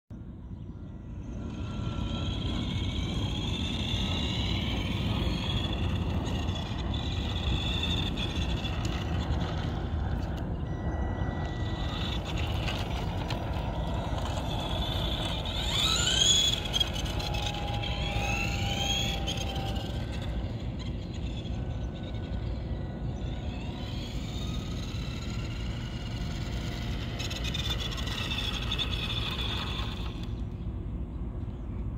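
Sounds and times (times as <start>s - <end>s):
steady low rumble: 0.1s - 31.9s
toy truck motor whining: 1.2s - 30.5s.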